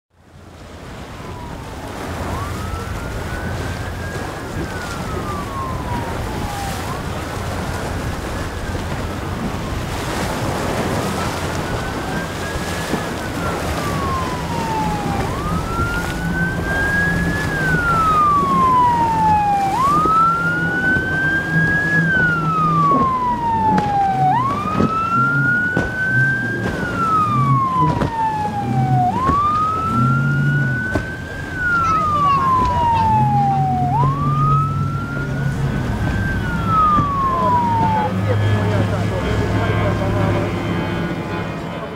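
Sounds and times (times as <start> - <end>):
hull rushing through choppy water: 0.1 - 41.9
outboard engine drone: 0.1 - 41.9
boat siren wailing: 0.2 - 41.9.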